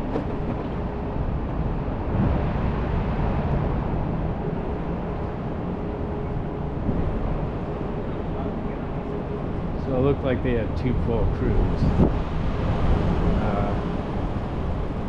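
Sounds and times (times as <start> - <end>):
city street rumble: 0.0 - 15.0.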